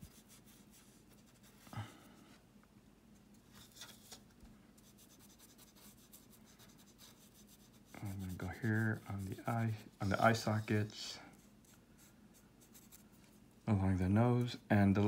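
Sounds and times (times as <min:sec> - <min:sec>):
paintbrush strokes: 0:00.0 - 0:02.4, 0:03.2 - 0:13.6.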